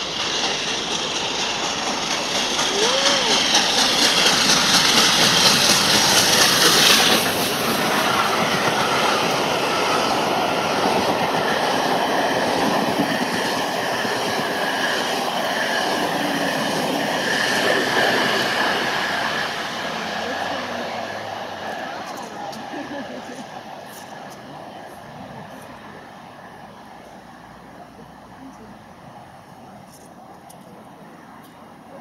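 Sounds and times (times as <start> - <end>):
steam locomotive exhaust: 0.0 - 31.8
train coaches rumbling past: 0.0 - 32.0.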